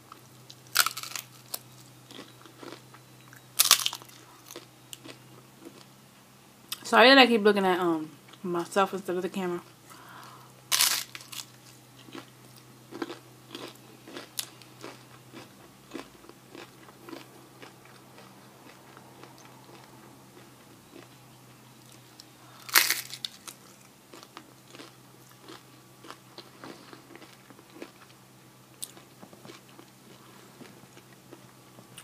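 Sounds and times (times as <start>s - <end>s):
crunchy chewing: 0.1s - 5.9s, 9.9s - 32.0s.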